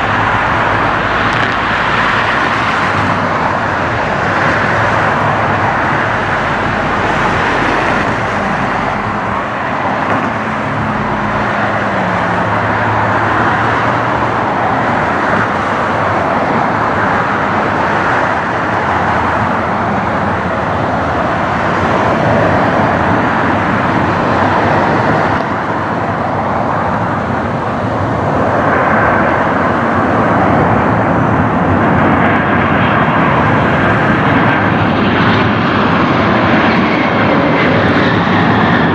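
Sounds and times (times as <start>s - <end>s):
jet airliner engines running: 0.0s - 38.9s.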